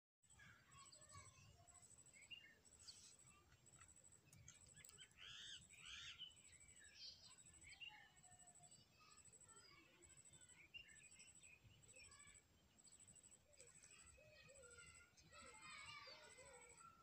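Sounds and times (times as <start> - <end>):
faint birdsong: 0.2 - 17.0.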